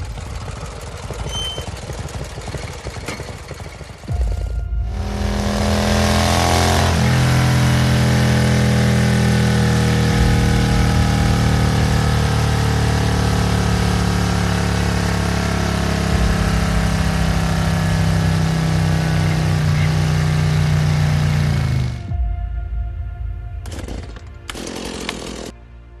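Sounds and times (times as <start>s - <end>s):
motorcycle engine high revs: 0.0s - 22.2s, 23.7s - 25.5s.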